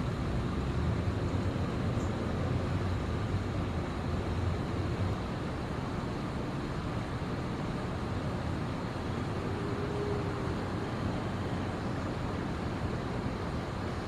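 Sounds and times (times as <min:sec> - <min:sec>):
distant city traffic rumble: 0:00.0 - 0:14.0.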